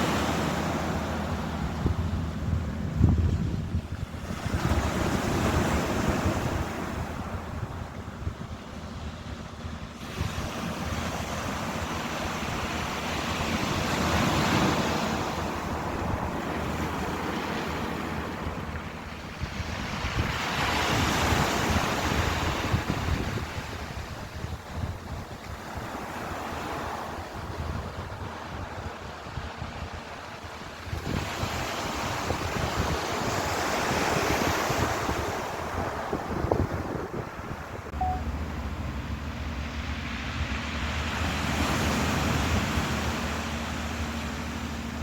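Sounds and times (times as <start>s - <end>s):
ocean waves breaking on shore: 0.0s - 45.0s
wind buffeting microphone: 0.0s - 45.0s.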